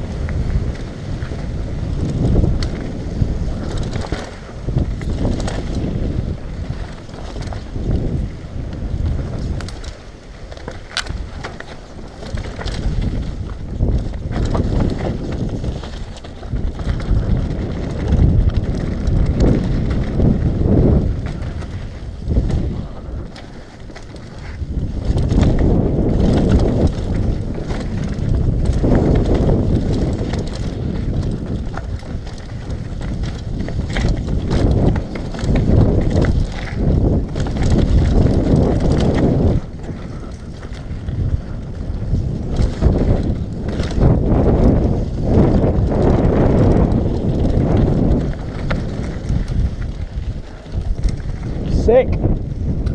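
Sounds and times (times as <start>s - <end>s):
bike rattling and knocking: 0.0s - 52.9s
tyres rolling over dirt: 0.0s - 52.9s
wind buffeting a microphone: 0.0s - 52.9s.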